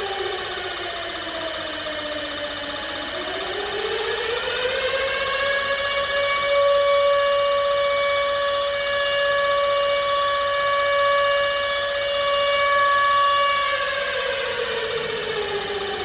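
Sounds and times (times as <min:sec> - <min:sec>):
civil defense siren: 0:00.0 - 0:16.0.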